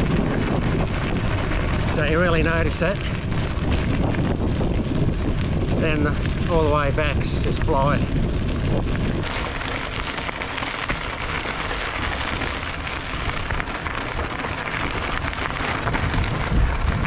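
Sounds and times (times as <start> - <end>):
tyres crunching on gravel: 0.0 - 17.0.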